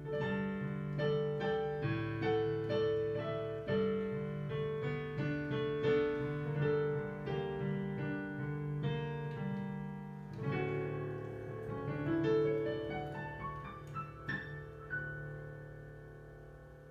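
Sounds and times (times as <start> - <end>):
digital piano playing: 0.0 - 16.9.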